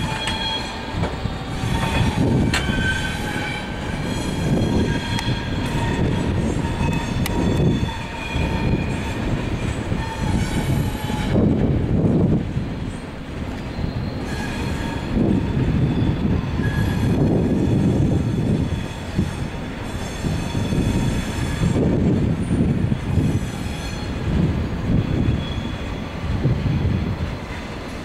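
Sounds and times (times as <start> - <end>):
high-pitched wheel squeal: 0.0 - 11.5, 13.7 - 24.3, 24.9 - 26.1
train wheels rolling on rails: 0.0 - 28.0.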